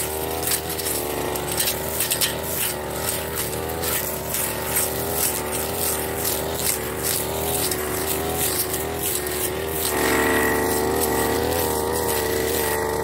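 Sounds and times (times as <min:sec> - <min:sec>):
brush cutter engine running: 0:00.0 - 0:13.0
cutting head swishing through grass: 0:00.0 - 0:13.0.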